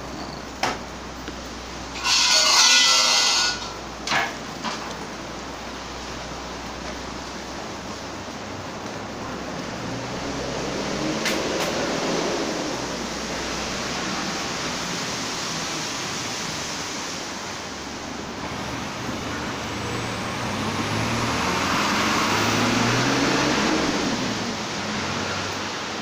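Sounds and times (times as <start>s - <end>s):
rain hissing: 0.0s - 26.0s.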